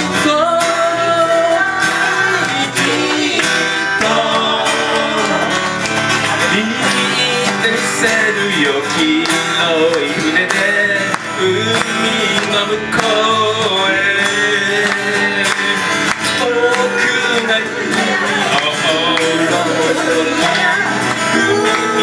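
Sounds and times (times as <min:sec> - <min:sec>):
acoustic guitars strummed: 0:00.0 - 0:22.0
electric bass: 0:00.0 - 0:22.0
man singing: 0:00.0 - 0:22.0.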